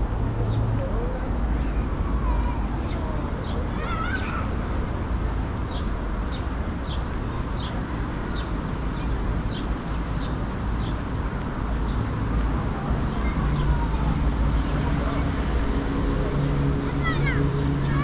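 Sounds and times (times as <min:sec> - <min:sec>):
low street noise: 0:00.0 - 0:18.0.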